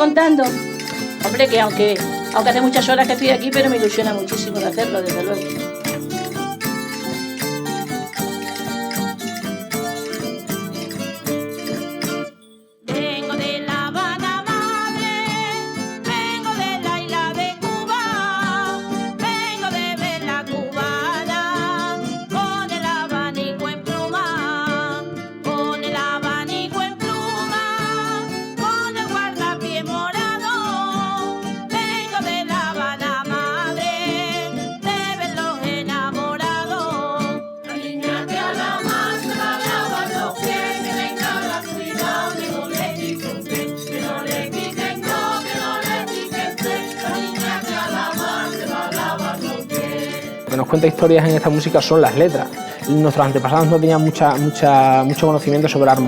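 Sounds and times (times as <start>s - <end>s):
person singing folk song: 0.0s - 56.0s
strummed acoustic guitars: 0.0s - 56.0s.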